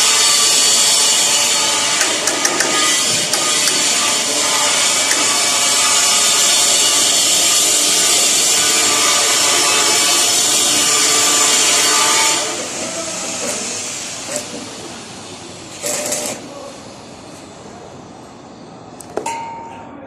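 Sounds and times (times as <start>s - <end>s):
electric welding arc hissing: 0.0s - 17.2s.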